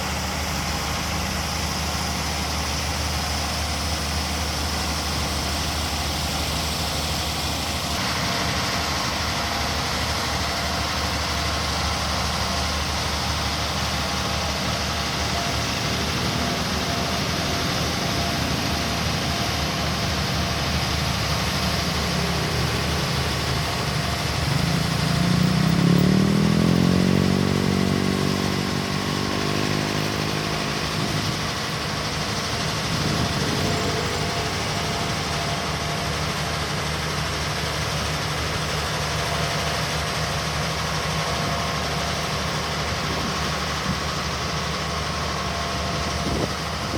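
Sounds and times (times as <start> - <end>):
heavy machinery engine revving: 0.0 - 46.9.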